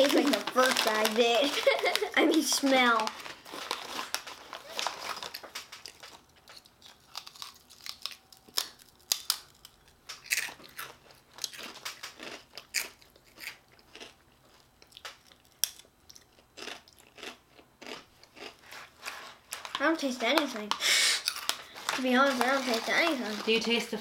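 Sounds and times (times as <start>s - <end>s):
children crunching chips: 0.0s - 24.0s.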